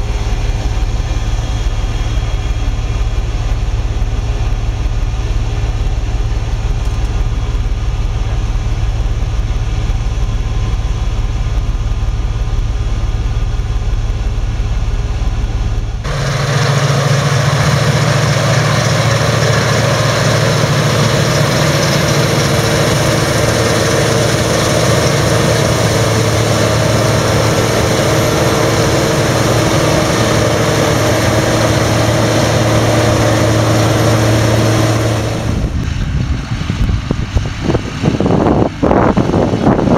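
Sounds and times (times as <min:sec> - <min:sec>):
combine harvester engine held tones: 0:00.0 - 0:39.9
combine harvester rumbling: 0:00.0 - 0:39.9.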